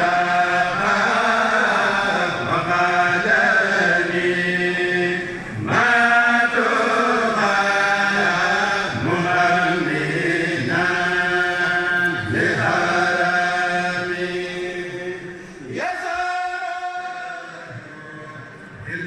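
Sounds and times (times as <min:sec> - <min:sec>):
devotional chanting voices: 0:00.0 - 0:19.0.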